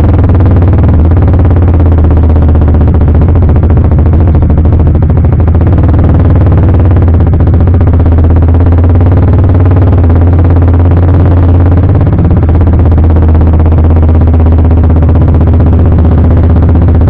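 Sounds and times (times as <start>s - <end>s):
motorcycle exhaust note: 0.0s - 17.0s.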